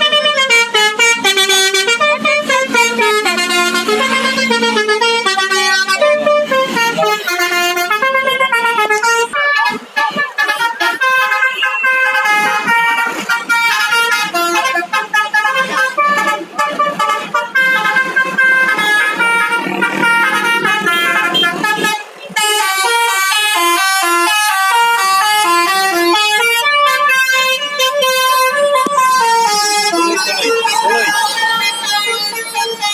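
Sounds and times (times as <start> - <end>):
bus horn playing a tune: 0.0 - 32.9.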